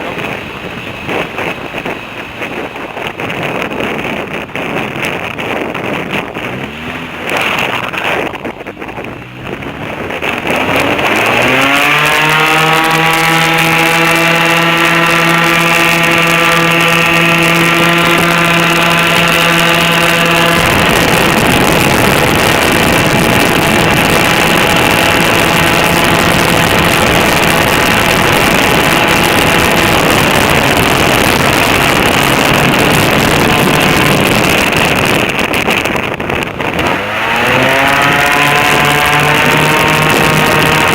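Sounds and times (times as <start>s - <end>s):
airboat engine and propeller: 0.0s - 40.9s.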